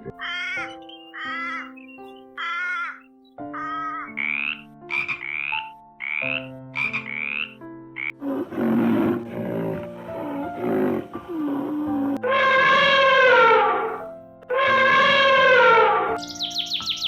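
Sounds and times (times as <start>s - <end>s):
animal calling: 0.0s - 17.0s
soft background music: 0.0s - 17.0s.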